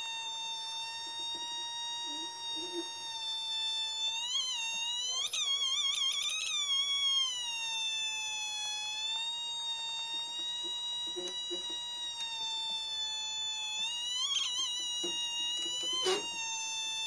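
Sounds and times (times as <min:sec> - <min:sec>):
theremin high electronic tone: 0:00.0 - 0:17.0.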